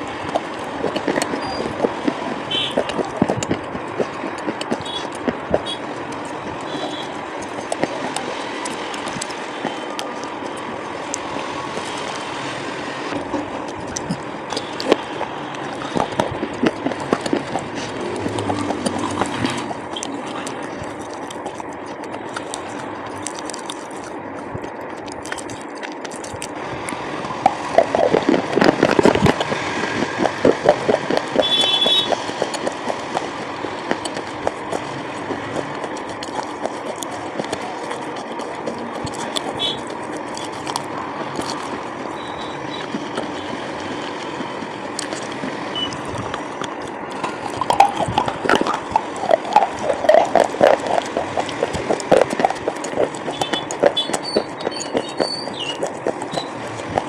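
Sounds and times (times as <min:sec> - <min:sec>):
crunching and chewing slate pencils: 0:00.0 - 0:57.0.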